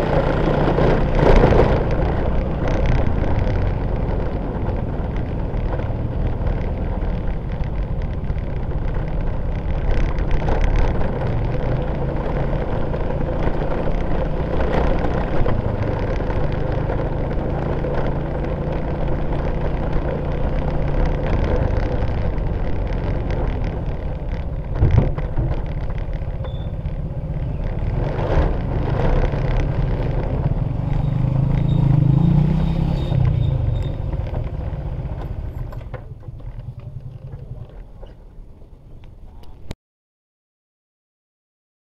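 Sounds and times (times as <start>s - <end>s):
vehicle rumbling over paving: 0.0s - 39.8s.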